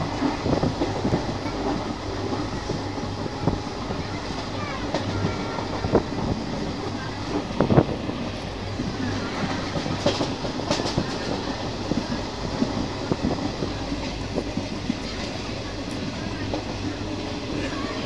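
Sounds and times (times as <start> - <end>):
rail joint clacks: 0.0 - 18.0
train wheels rumbling on rails: 0.0 - 18.0.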